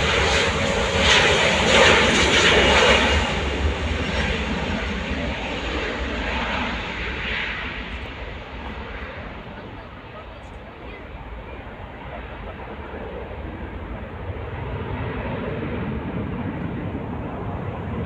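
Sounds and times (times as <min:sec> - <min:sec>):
jet engines at takeoff power: 0:00.0 - 0:18.0.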